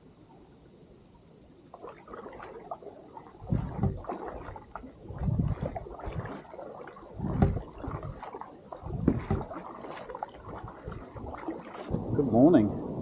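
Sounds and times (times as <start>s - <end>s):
water sloshing around kayak: 1.6s - 13.0s.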